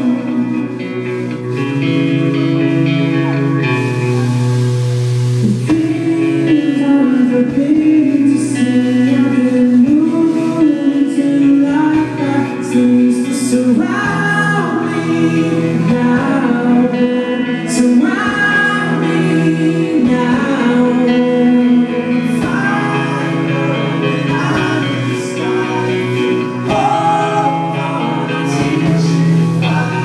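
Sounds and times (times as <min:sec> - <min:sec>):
man singing lead vocal: 0:00.0 - 0:01.9, 0:05.4 - 0:30.0
electric guitar: 0:00.0 - 0:30.0
live rock band playing: 0:00.0 - 0:30.0.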